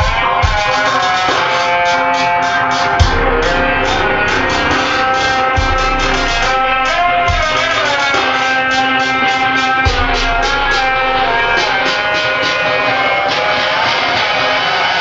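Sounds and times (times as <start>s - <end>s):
pitch-bending lead melody: 0.0s - 14.0s
music with fast beat: 0.0s - 15.0s.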